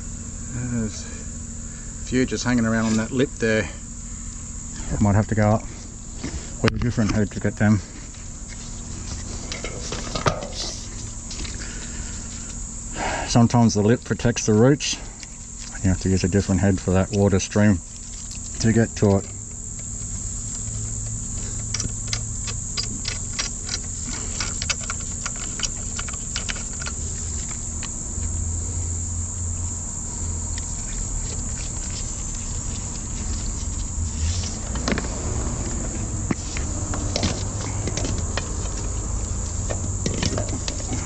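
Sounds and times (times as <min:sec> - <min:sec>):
drain jetter engine hum: 0:00.0 - 0:41.0.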